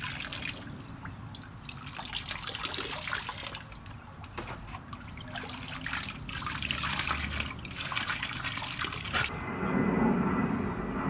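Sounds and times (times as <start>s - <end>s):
water pouring into plastic pool: 0.0s - 9.3s.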